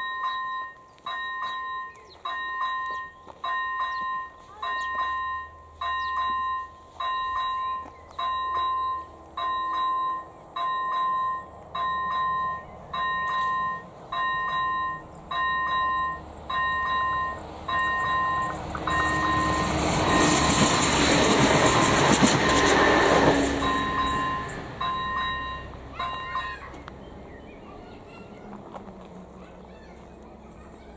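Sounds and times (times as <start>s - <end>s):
level crossing warning bell: 0.0s - 26.9s
passenger train passing: 0.0s - 30.9s.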